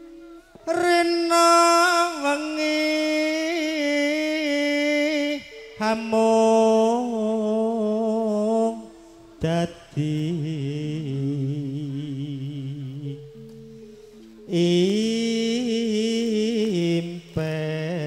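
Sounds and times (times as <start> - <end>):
person singing long notes: 0.0 - 18.0.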